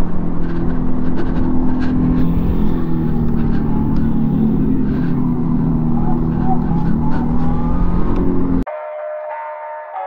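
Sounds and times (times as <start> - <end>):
wind rumble on microphone: 0.0 - 8.6
simulated motorcycle engine drone: 0.0 - 8.7.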